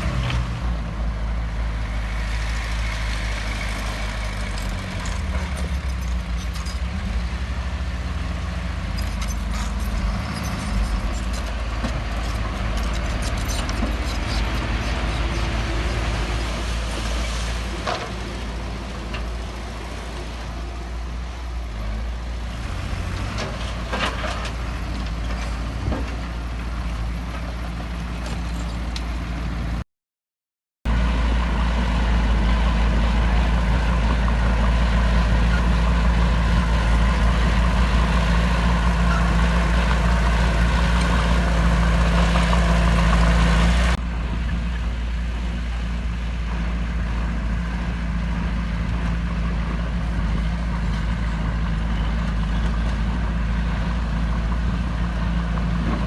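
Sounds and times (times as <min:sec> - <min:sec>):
heavy diesel machinery running: 0:00.0 - 0:29.8, 0:30.9 - 0:56.0.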